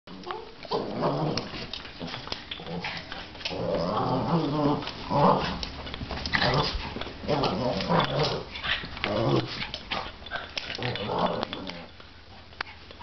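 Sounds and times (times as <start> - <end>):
dogs growling: 0.1 - 12.0.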